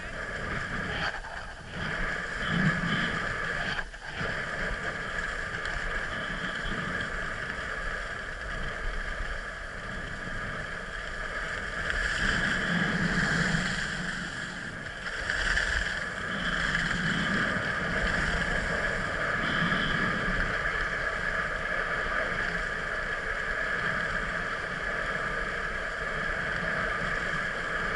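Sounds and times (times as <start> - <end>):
wind on microphone: 0.0 - 27.9.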